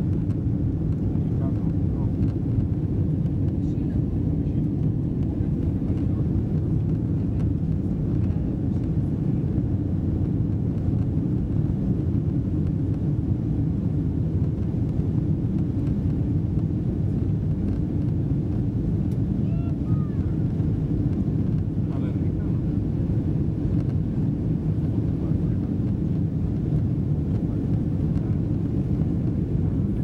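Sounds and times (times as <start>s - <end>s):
airplane cabin drone: 0.0s - 30.0s.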